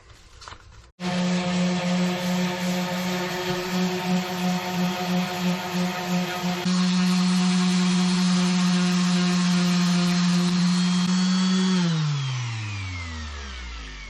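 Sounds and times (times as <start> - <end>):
electric sander sanding wood: 1.0 - 14.0.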